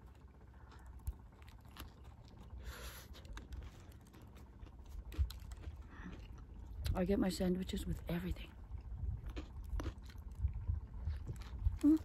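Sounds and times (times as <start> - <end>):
person chewing a sandwich: 0.0 - 7.0, 8.6 - 12.0.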